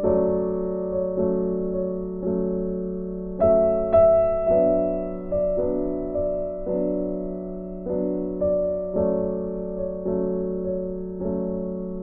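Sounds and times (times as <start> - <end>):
keyboard chords: 0.0 - 12.0.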